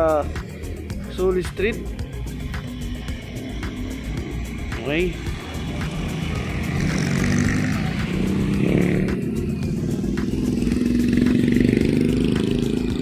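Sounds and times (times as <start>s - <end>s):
motorcycle engine running: 0.0s - 13.0s
street traffic: 0.0s - 13.0s.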